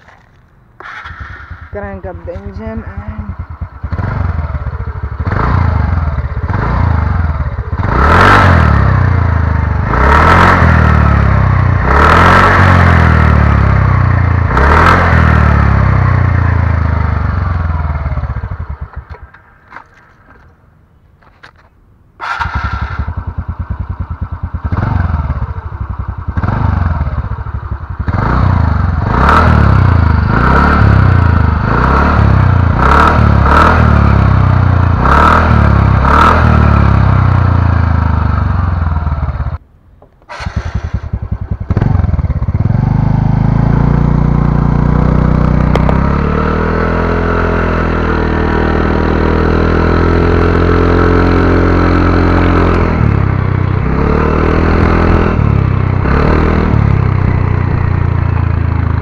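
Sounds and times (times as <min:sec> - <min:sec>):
scooter engine revving: 0:00.1 - 0:19.9, 0:22.2 - 0:39.6, 0:40.3 - 0:59.0.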